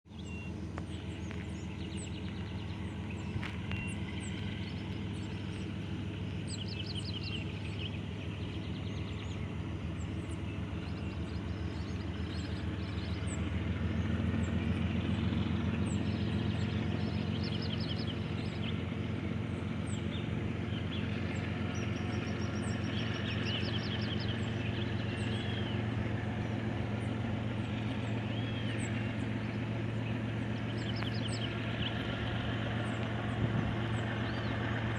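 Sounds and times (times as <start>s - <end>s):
birds chirping: 0.1s - 34.9s
locomotive diesel engines running: 0.1s - 34.9s.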